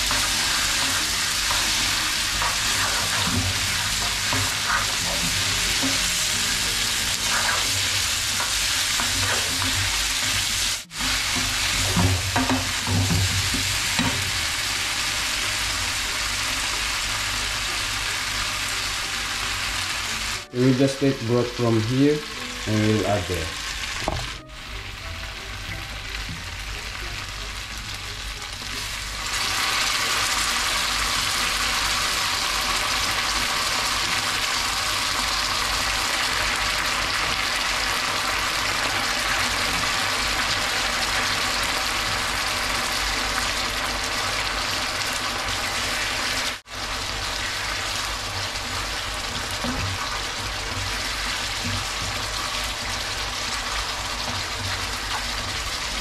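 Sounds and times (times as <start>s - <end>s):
sauce sizzling in frying pan: 0.0s - 56.0s.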